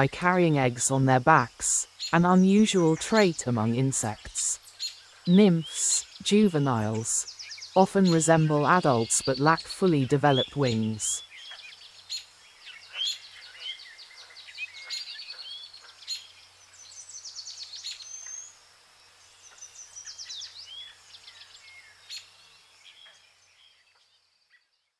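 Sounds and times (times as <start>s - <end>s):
birds chirping and trilling: 0.0s - 24.8s.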